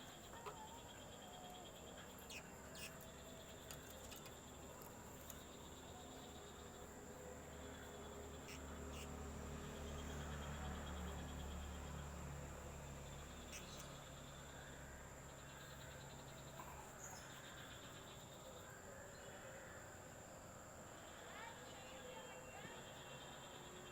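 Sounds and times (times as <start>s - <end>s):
insects trilling: 0.0s - 23.9s.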